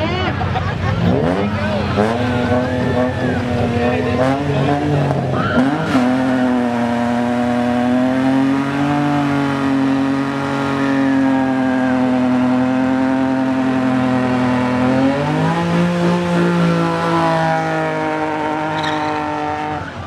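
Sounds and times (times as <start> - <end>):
car engine at high revs: 0.0 - 20.0.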